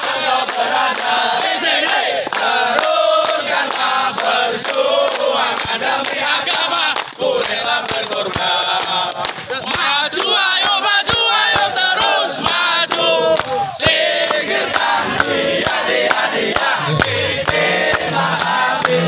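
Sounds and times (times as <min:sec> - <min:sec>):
men chanting in unison: 0:00.0 - 0:19.0
rhythmic hand-clapping: 0:00.0 - 0:19.0.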